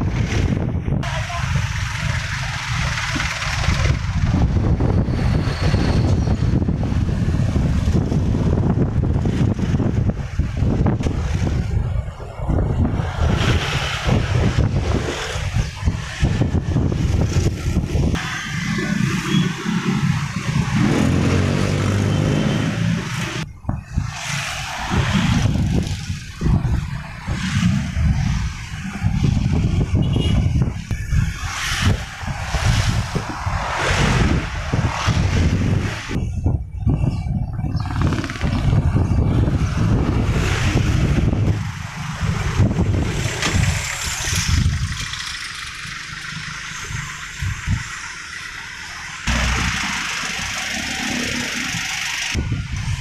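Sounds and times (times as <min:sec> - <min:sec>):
vehicle engine speeding up: 0:00.0 - 0:36.2, 0:37.6 - 0:53.0
wind buffeting microphone: 0:00.0 - 0:48.1, 0:51.6 - 0:53.0
road rumble: 0:00.0 - 0:53.0.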